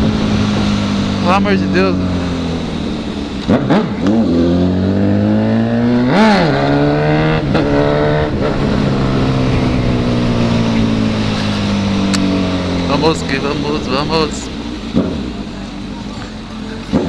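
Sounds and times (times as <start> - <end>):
motorcycle engine throttle blips: 0.0 - 17.0.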